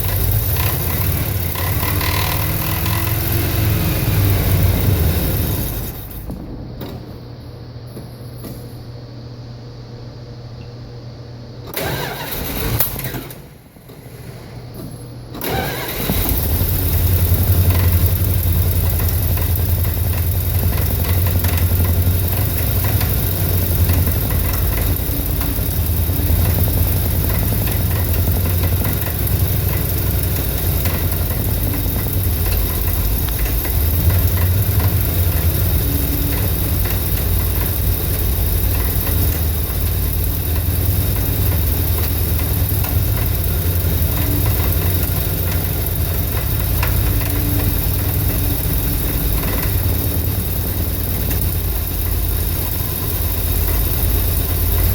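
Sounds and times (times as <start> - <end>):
loud engine idle: 0.0 - 6.8, 15.4 - 54.9
engine cranking and starting: 0.0 - 7.2, 11.7 - 54.9.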